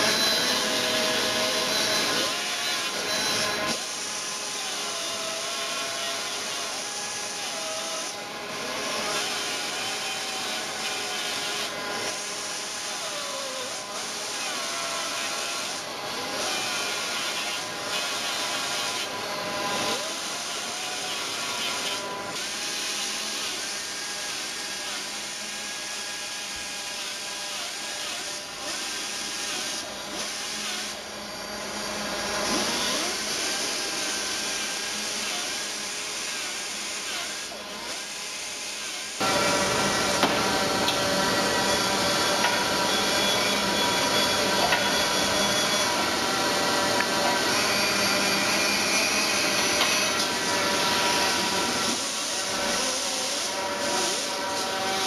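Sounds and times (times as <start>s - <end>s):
pneumatic sander rasping: 0.0s - 55.0s.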